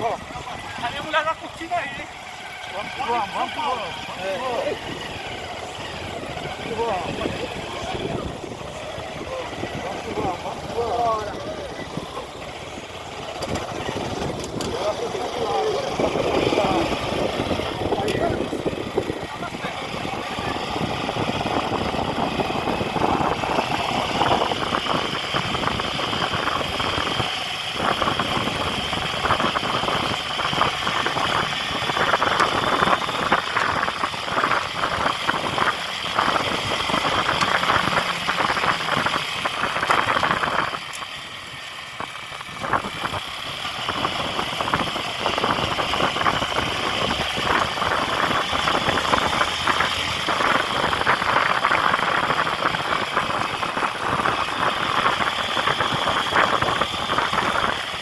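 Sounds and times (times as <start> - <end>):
vehicle engine rattling: 0.0 - 58.0.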